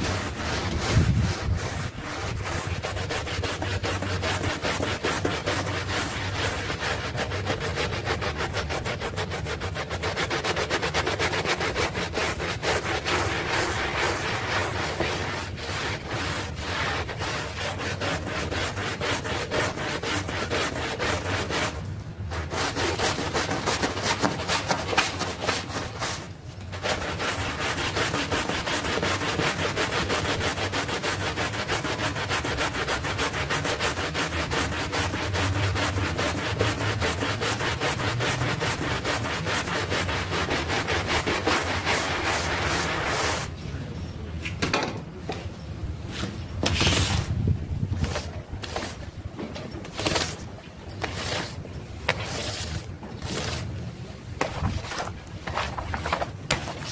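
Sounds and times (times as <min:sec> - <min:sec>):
brush scrubbing wet rug: 0:00.0 - 0:43.5, 0:46.7 - 0:47.3, 0:48.0 - 0:49.1, 0:49.9 - 0:56.9.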